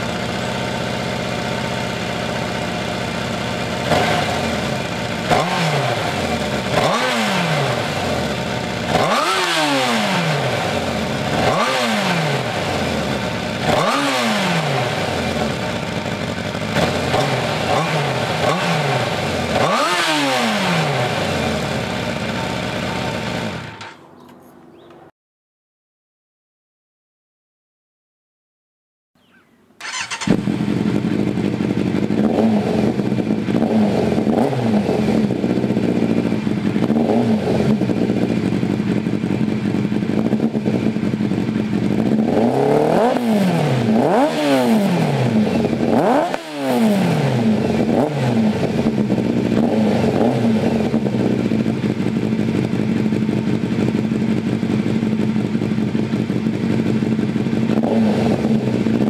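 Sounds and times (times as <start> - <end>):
motorcycle engine idling and revving: 0.0 - 25.0, 29.3 - 59.0.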